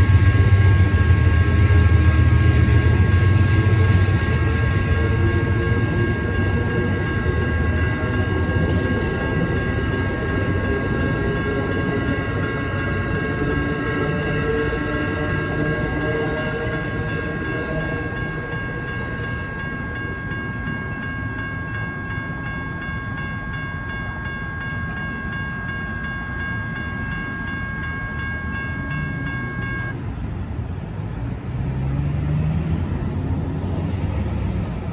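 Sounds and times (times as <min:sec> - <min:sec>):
railroad crossing bell ringing: 0:00.0 - 0:34.9
train rumbling away: 0:00.0 - 0:34.9.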